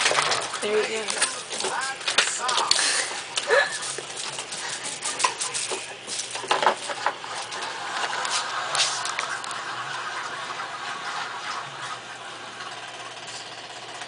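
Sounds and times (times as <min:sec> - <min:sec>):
rat scrabbling: 0:00.0 - 0:14.0.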